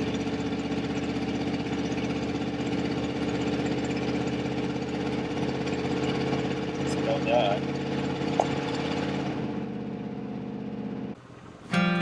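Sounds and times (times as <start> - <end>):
engine droning while driving: 0.0 - 12.0
road noise: 0.0 - 12.0.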